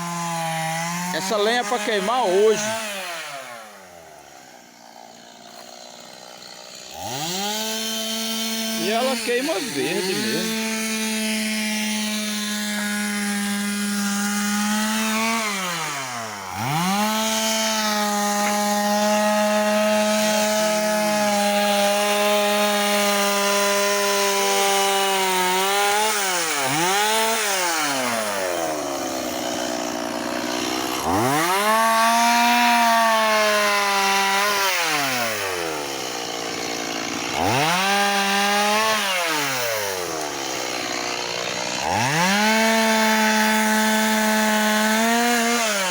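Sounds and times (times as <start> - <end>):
chainsaw cutting firewood: 0.0 - 45.9.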